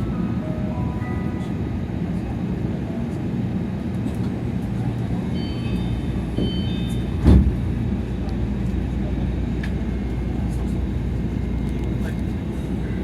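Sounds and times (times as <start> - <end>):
monorail car rumbling: 0.0 - 13.0.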